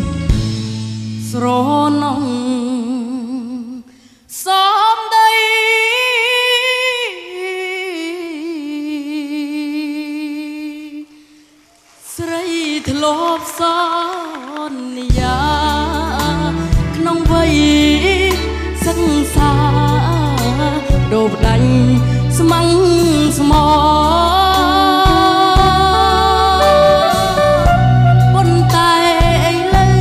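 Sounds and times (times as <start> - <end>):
person singing slow ballad: 0.0 - 30.0.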